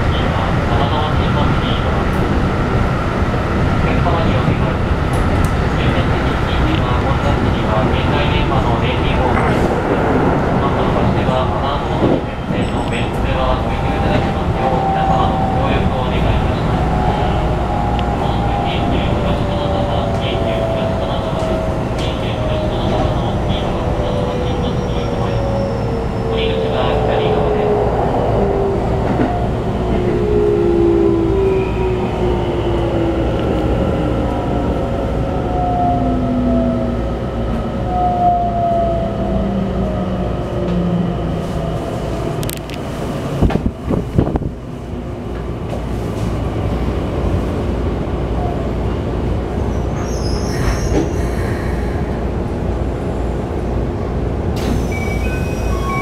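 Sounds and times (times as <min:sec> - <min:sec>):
wheels rumbling on rails: 0:00.0 - 0:38.4, 0:39.1 - 0:56.0
train inverter whine: 0:00.0 - 0:56.0.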